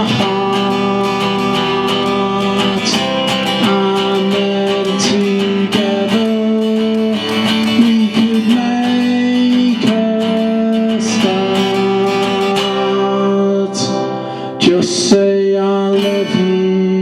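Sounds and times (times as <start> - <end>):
strummed guitar chords: 0.0 - 17.0.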